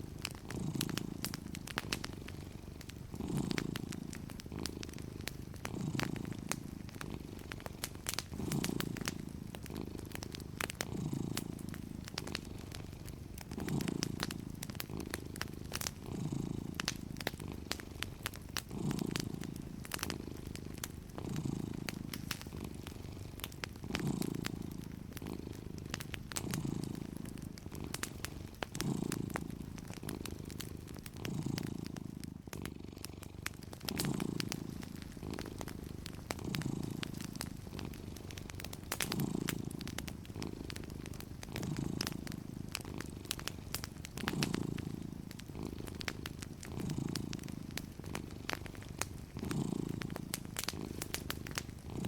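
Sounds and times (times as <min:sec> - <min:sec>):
cat purring: 0:00.0 - 0:52.0
wood fire crackling: 0:00.0 - 0:52.0.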